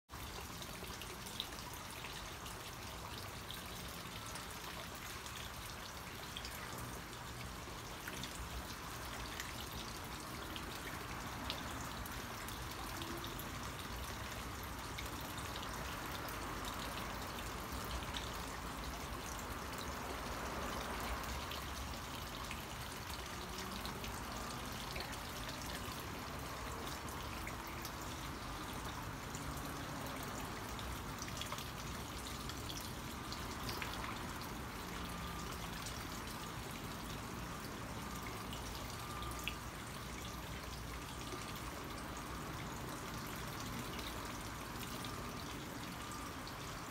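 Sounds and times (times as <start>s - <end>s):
faint water drips: 0.1s - 46.9s
trickling water: 0.1s - 46.9s.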